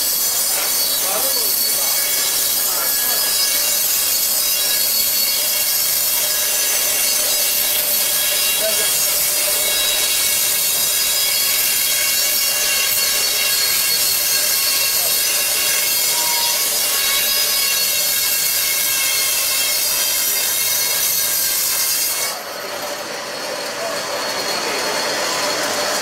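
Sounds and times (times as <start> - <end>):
band saw screeching: 0.0 - 26.0.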